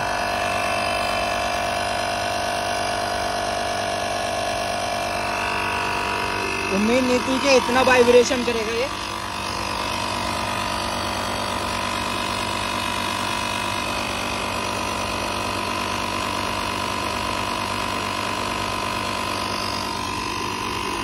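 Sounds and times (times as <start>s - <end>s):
tyre inflator compressor humming: 0.0s - 21.0s.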